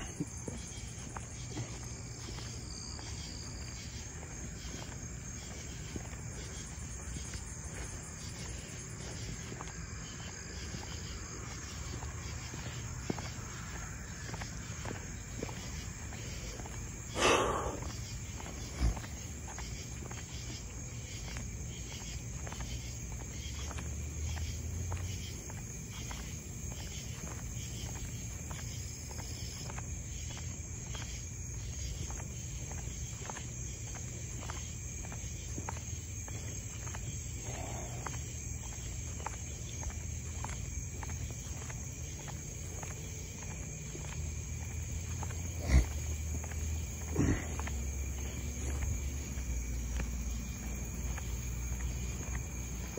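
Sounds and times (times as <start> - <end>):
footsteps walking: 0.0 - 52.9
night insects chirring: 0.0 - 52.9.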